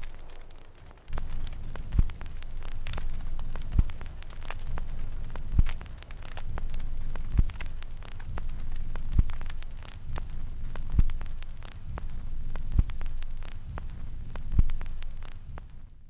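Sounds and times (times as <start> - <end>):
crackling static: 0.0 - 16.0
low rumbling hum: 0.0 - 16.0.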